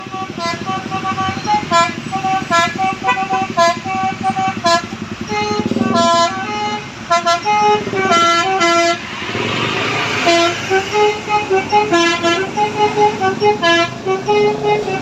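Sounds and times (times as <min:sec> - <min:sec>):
bus engine running: 0:00.0 - 0:15.0
musical air horn melody: 0:00.0 - 0:15.0.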